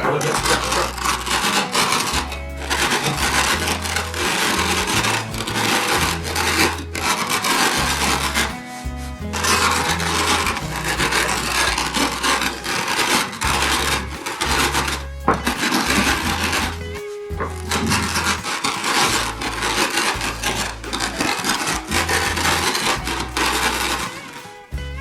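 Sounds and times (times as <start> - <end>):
rolling pin crushing rice: 0.0 - 24.3.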